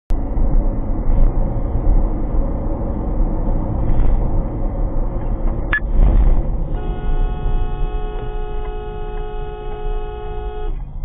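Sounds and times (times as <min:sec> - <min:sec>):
car driving interior rumble: 0:00.1 - 0:11.0.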